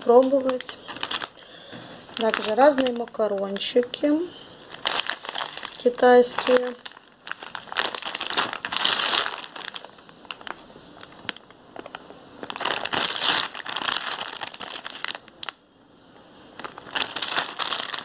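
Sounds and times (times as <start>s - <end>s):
plastic packets crinkling: 0.0s - 15.6s, 16.5s - 18.0s.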